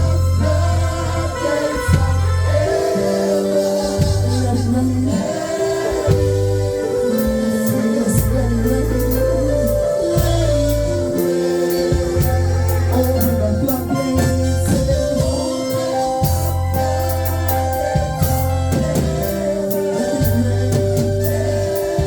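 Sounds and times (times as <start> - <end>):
choir singing: 0.0 - 22.0
sustained bass notes: 0.0 - 22.0.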